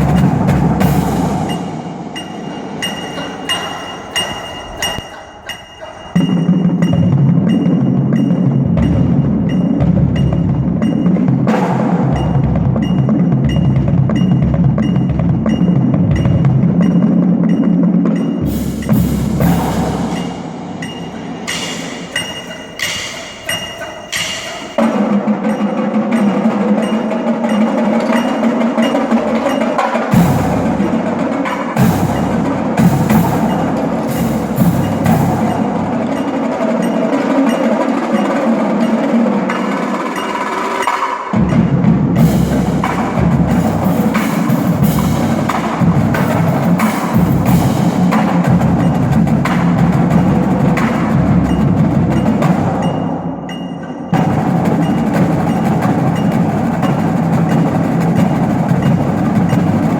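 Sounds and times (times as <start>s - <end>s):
drumline playing: 0.0s - 59.9s
ringing mallet percussion: 0.0s - 59.9s.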